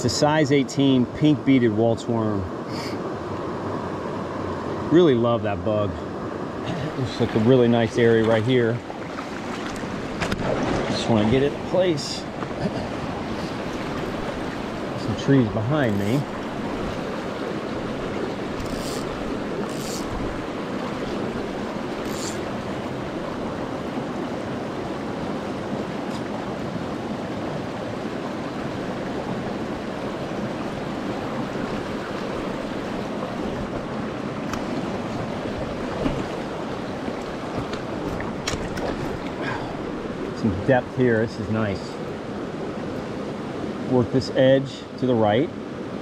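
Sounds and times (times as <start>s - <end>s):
creek flowing over stones: 4.4s - 45.9s.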